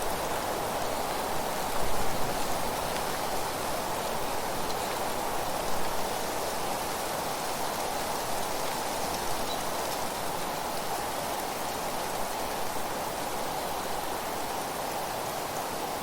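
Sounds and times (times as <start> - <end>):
wind blowing through trees: 0.0 - 16.0.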